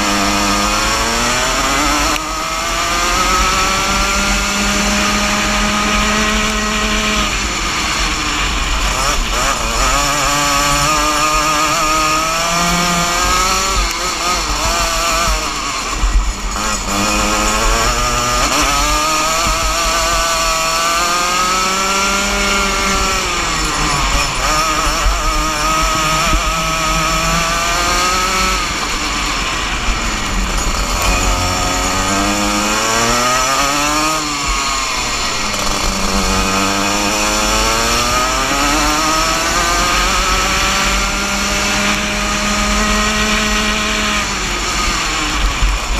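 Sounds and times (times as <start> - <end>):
kart engine racing: 0.0 - 45.9.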